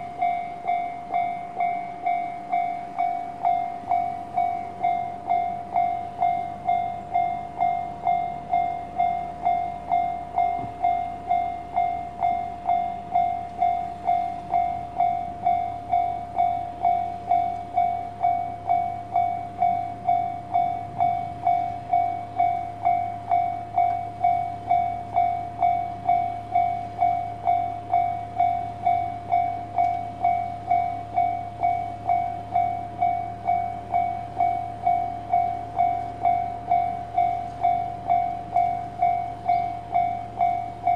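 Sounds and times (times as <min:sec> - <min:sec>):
bell-like tone strikes: 0:00.0 - 0:40.9.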